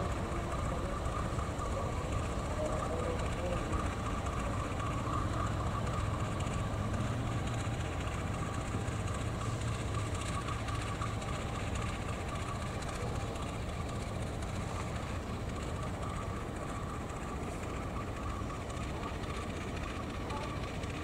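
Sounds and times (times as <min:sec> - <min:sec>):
diesel locomotive engine drone: 0:00.0 - 0:21.0
thin high whine: 0:00.0 - 0:21.0.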